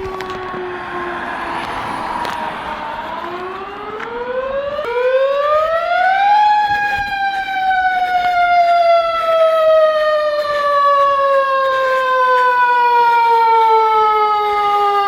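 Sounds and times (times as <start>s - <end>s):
fire siren winding up: 0.0s - 15.0s.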